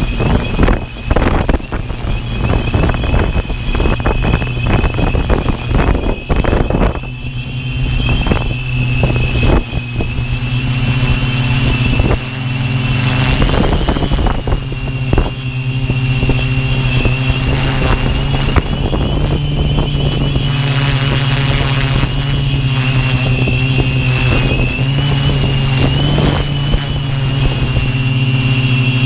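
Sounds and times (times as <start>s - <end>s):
drone motors humming and whining: 0.0s - 29.0s
wind buffeting microphone: 0.0s - 29.0s.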